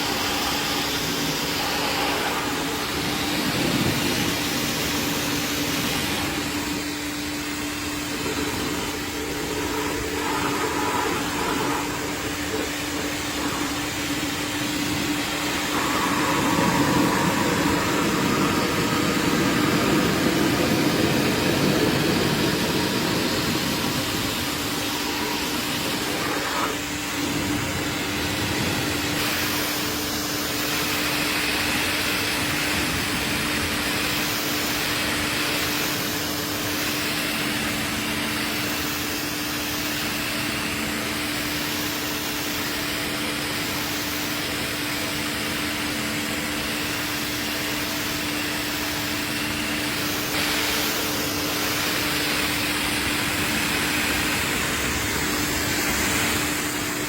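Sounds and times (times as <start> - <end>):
motor hum: 0.0 - 57.0.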